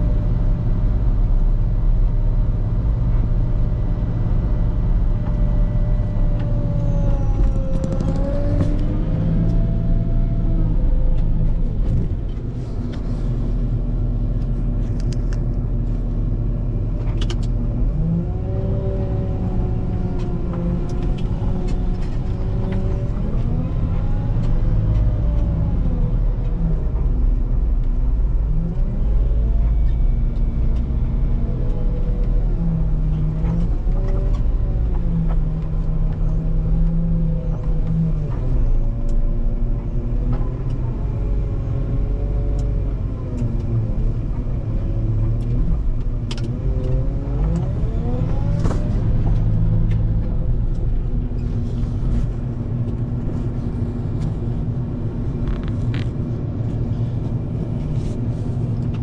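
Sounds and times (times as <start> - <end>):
wheel loader diesel engine: 0.0 - 59.0.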